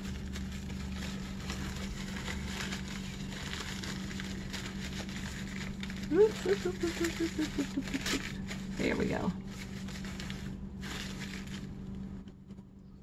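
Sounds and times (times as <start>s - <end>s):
paper filter rustling and crinkling: 0.0s - 12.7s
steady low hum: 0.0s - 13.0s.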